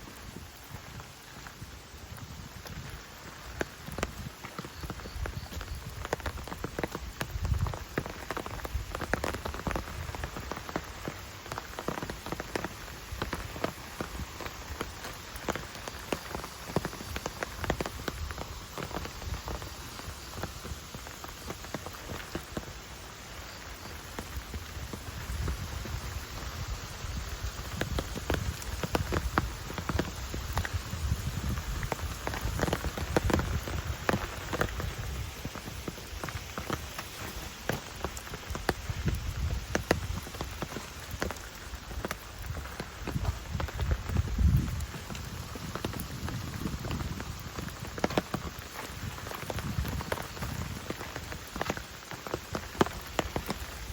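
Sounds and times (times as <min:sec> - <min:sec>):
rain pattering in forest: 0:00.0 - 0:53.9.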